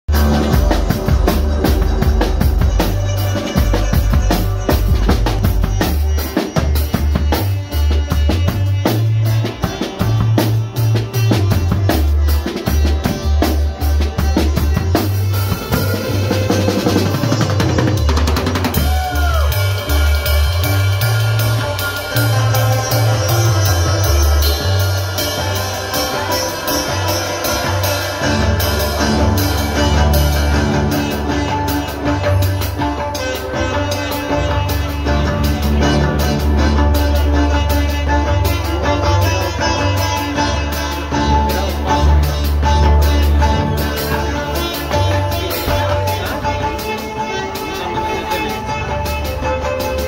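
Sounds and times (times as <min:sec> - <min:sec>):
deep bass notes: 0:00.0 - 0:50.0
drum kit: 0:00.0 - 0:50.0.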